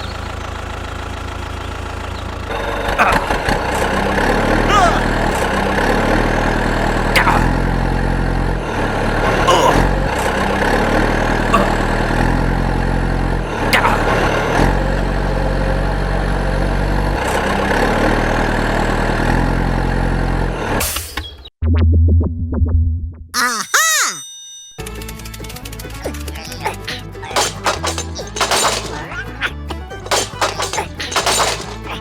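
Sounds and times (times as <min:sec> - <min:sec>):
small tractor engine running: 0:00.0 - 0:20.8, 0:24.8 - 0:32.0.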